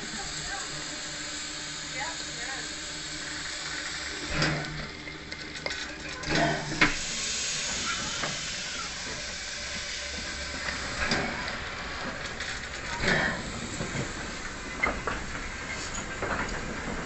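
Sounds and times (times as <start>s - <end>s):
steam locomotive hissing: 0.0s - 17.0s
steam puffs: 0.0s - 17.0s.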